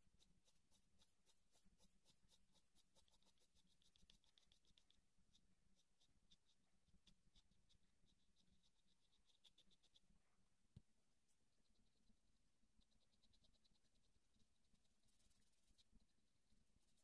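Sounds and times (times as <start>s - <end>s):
pencil scratching on paper: 0.0s - 10.1s, 12.8s - 17.0s.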